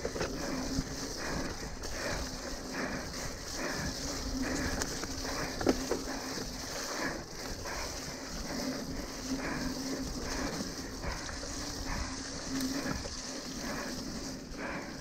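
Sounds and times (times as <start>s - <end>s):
mountain bike rattling on trail: 0.0s - 15.0s.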